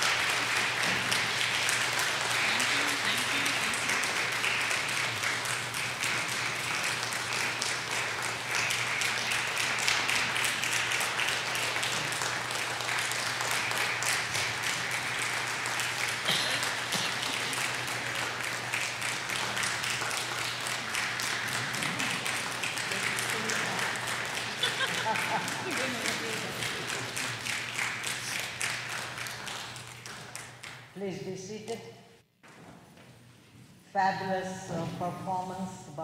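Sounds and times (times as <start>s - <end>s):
crowd applauding: 0.0s - 30.8s.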